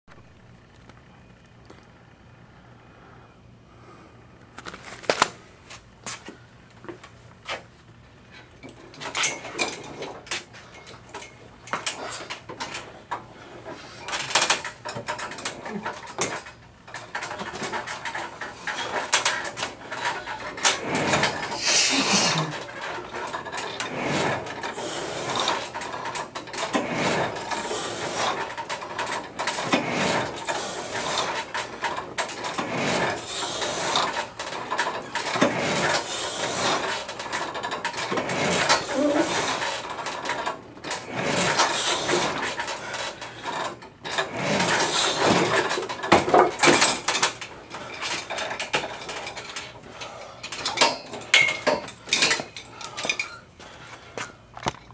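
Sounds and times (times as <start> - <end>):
exercise machine whirring and clatter: 0.1 - 54.9.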